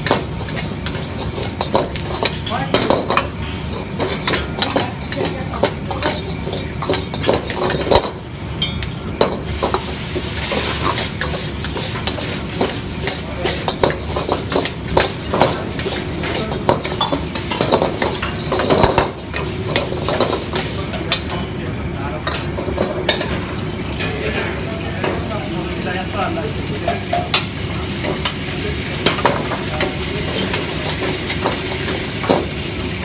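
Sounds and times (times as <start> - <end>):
food sizzling: 0.0 - 33.0.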